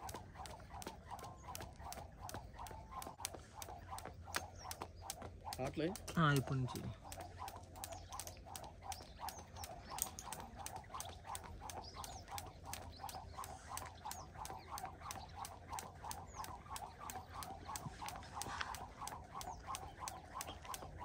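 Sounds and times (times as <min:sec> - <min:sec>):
skipping rope slapping ground: 0:00.0 - 0:21.0.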